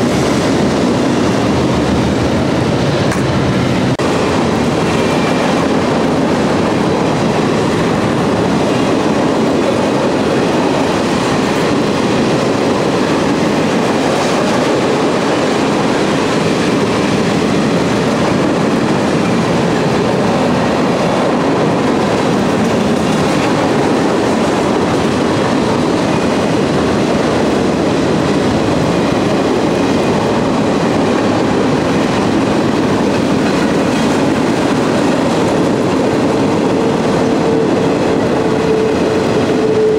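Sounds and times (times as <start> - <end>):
steel train wheels rolling on rail: 0.0 - 39.9.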